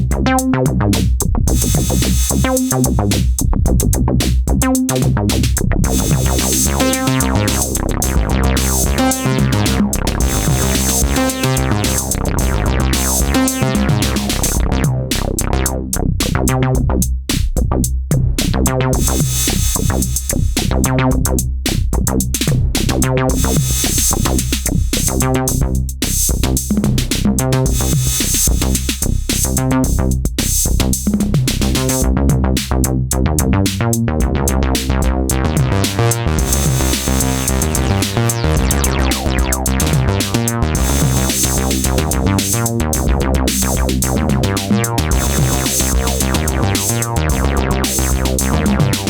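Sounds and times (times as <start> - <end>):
resonant synthesizer bass sequence: 0.0 - 17.3, 18.0 - 21.5, 22.5 - 49.0
drum machine beat: 0.0 - 49.0.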